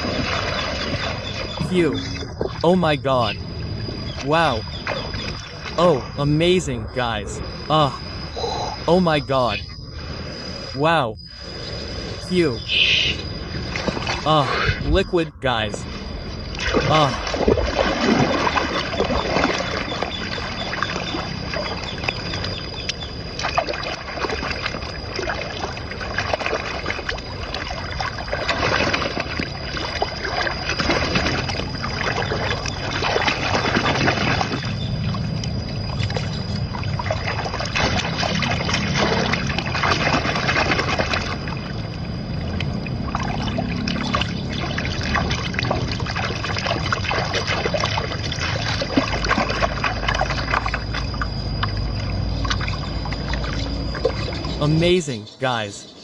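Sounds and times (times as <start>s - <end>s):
water trickling and splashing: 0.0s - 6.1s, 13.2s - 14.3s, 15.8s - 54.6s.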